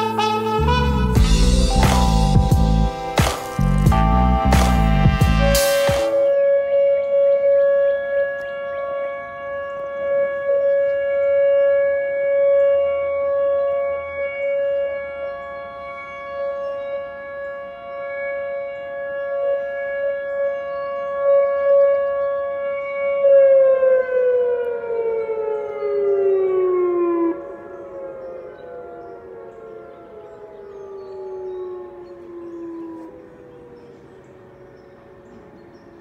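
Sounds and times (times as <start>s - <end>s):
warning siren steady tone: 0.0s - 36.0s.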